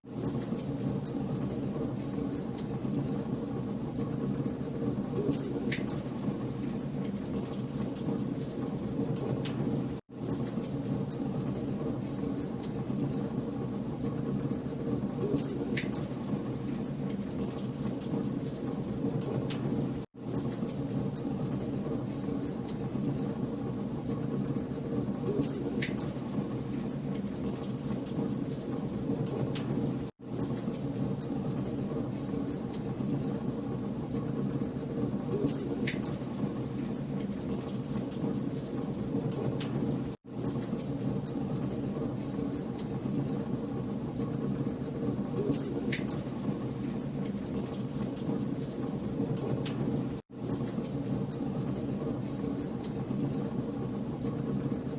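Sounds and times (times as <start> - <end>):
wood fire crackling: 0.1 - 54.9.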